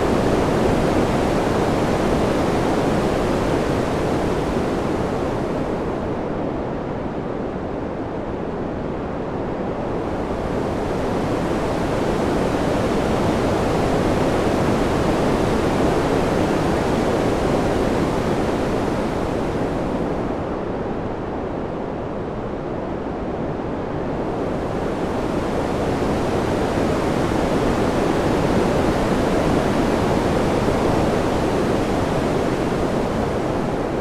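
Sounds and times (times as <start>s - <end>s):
steady rushing wind: 0.0s - 34.0s.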